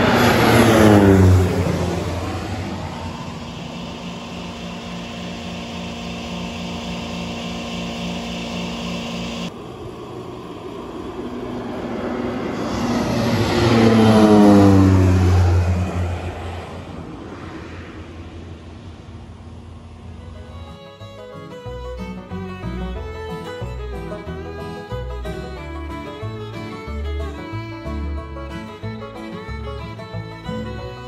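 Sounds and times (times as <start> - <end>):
propeller plane passing overhead: 0.0 - 31.0.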